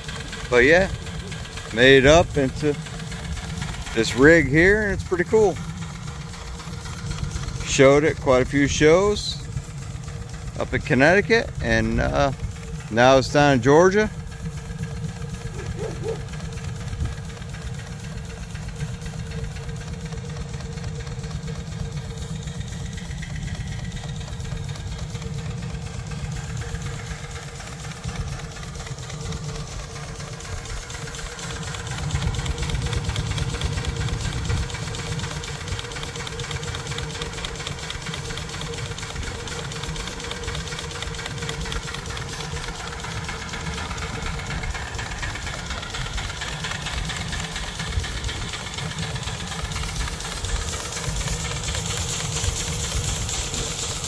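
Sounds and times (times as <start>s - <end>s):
steam engine chuffing and knocking: 0.0s - 54.0s.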